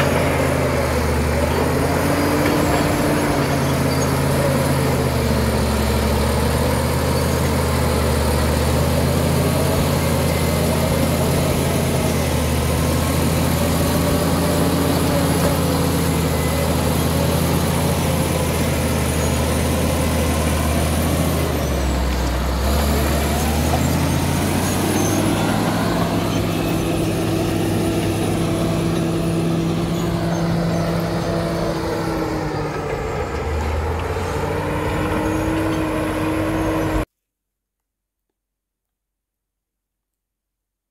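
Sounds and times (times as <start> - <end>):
bulldozer diesel engine running: 0.0 - 37.1.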